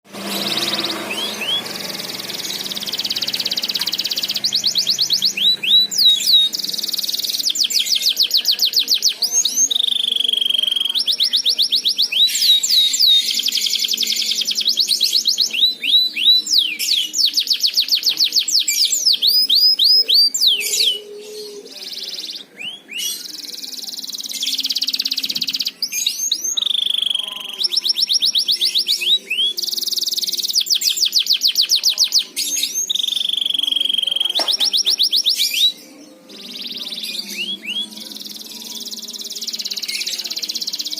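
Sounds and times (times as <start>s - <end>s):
canary singing: 0.1s - 40.9s.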